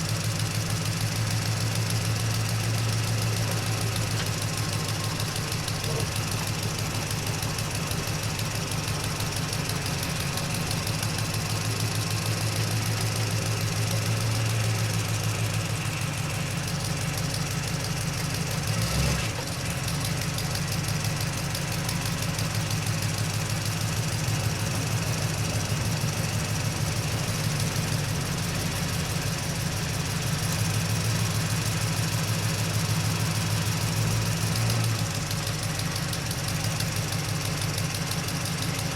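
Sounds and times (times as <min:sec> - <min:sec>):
truck engine driving: 0:00.0 - 0:38.9.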